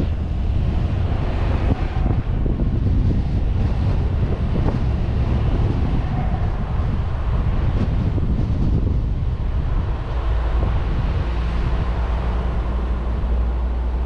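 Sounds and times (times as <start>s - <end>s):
car engine and tyre rumble: 0.0s - 14.0s
wind buffeting microphone: 0.0s - 14.0s.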